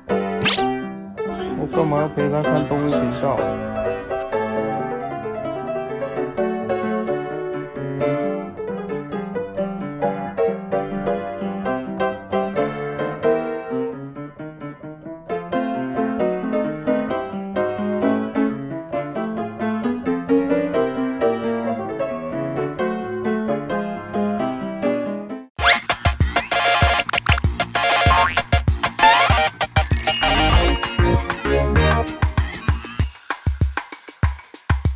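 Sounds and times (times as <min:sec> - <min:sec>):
piano background music: 0:00.0 - 0:25.4, 0:29.1 - 0:32.4.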